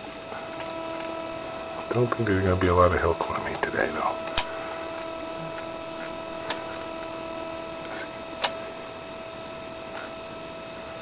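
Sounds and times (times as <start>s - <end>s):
steady electronic hum: 0.0s - 11.0s.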